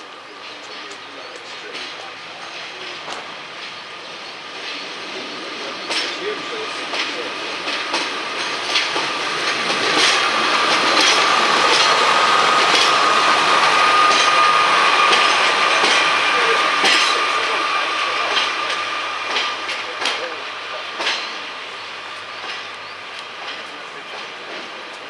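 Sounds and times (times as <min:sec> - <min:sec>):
train wheels clicking over joints: 0:00.0 - 0:25.0.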